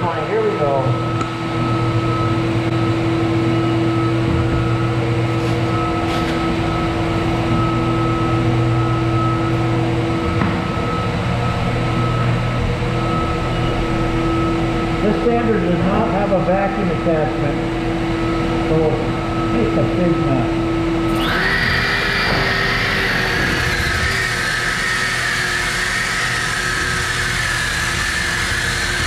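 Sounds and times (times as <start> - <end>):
floor sander running: 0.0 - 29.0.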